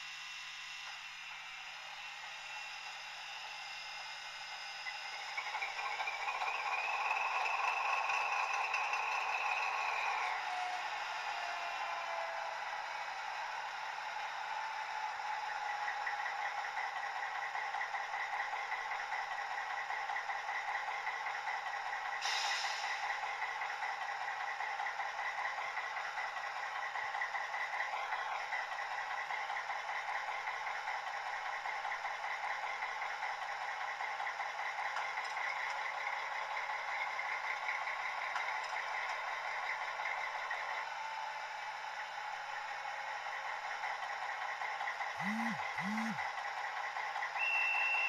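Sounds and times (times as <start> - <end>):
diesel engine idling from small speaker: 0.0 - 48.0.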